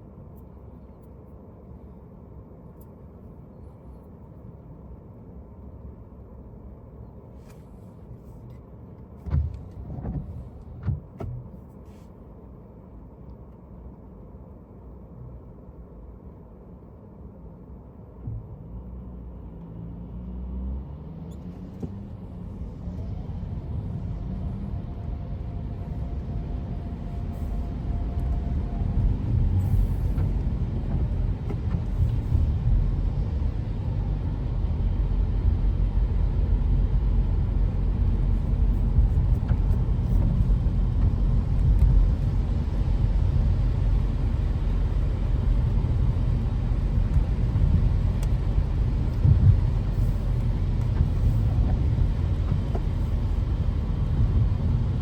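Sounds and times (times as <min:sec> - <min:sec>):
car driving rumble: 0:00.0 - 0:16.8, 0:17.4 - 0:55.0.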